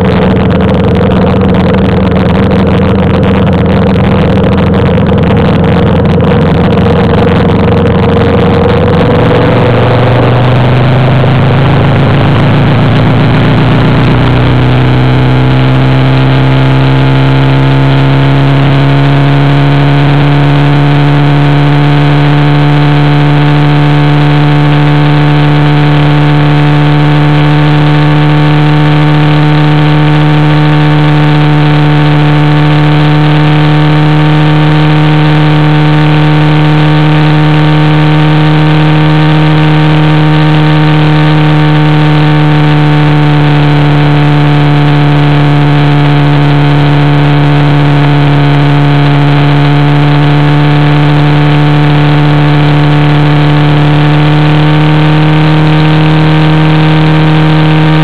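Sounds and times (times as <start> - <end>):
motorcycle engine cruising: 0.0 - 58.0
rushing wind and road noise: 0.0 - 58.0.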